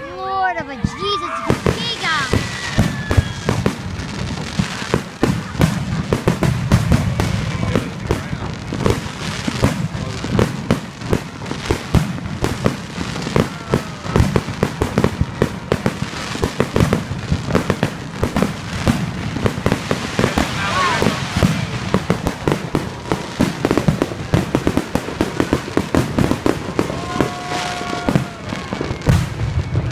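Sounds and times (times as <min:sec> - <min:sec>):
fireworks bangs and crackles: 0:00.0 - 0:29.9
fireworks whistling: 0:00.0 - 0:29.9.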